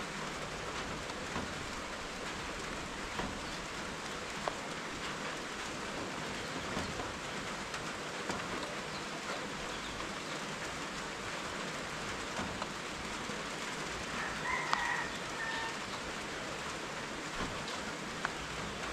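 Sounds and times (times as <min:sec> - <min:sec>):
rain falling steadily: 0:00.0 - 0:18.9.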